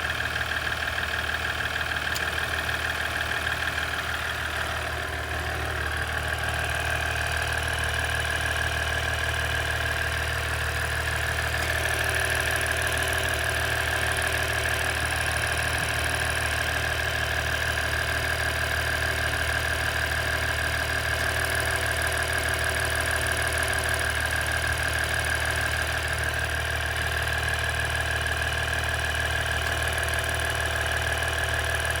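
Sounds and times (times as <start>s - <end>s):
diesel engine idling: 0.0s - 32.0s
fast continuous engine clicking: 0.0s - 32.0s.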